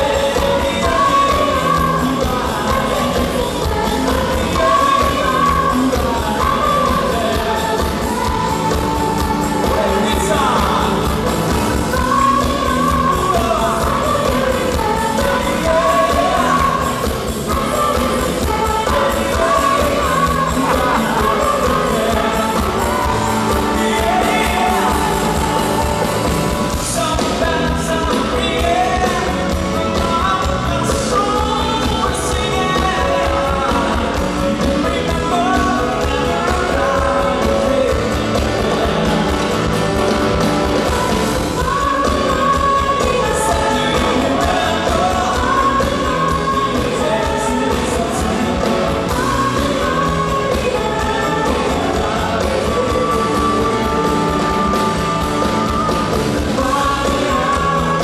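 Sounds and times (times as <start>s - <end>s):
pop-rock song with singing: 0.0s - 58.0s
steady drum beat: 0.0s - 58.0s.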